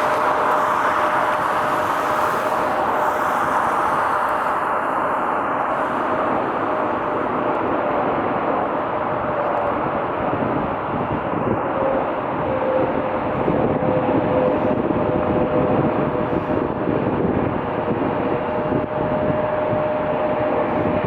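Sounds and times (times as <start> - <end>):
airliner engines whining: 0.0 - 21.0.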